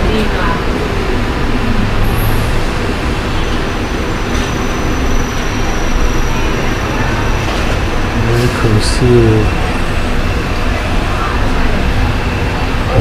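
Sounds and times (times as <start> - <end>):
steady rumbling background noise: 0.0 - 13.0.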